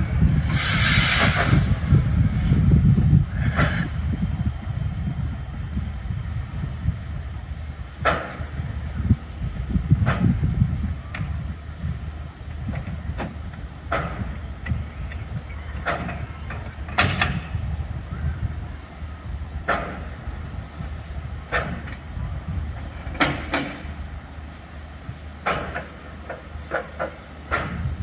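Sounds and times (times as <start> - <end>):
steady low rumble: 0.0 - 26.7.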